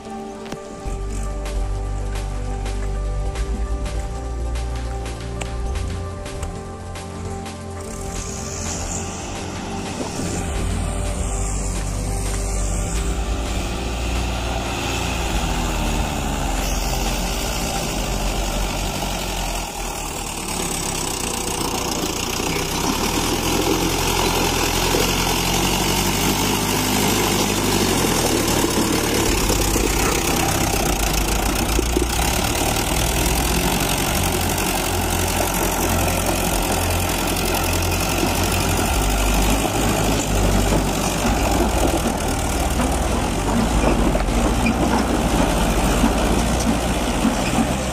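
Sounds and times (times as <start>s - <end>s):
diesel tractor engine under load: 0.0s - 47.9s.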